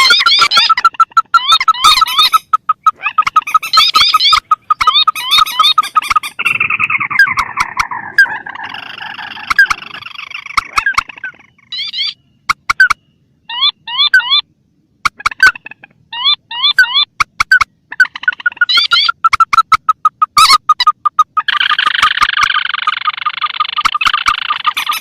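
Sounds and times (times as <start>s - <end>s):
rail bird calls: 0.0s - 25.0s.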